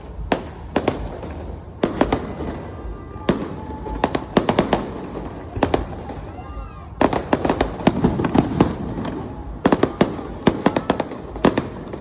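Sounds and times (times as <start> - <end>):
constant rumble: 0.0 - 12.0
fireworks bangs: 0.0 - 12.0.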